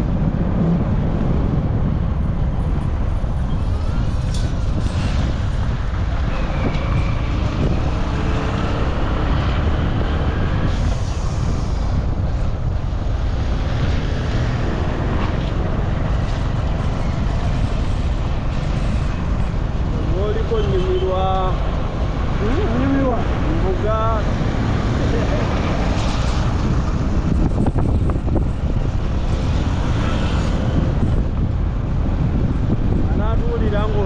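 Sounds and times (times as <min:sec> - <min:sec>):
road traffic passing: 0:00.0 - 0:34.0
wind rumbling on microphone: 0:00.0 - 0:34.0.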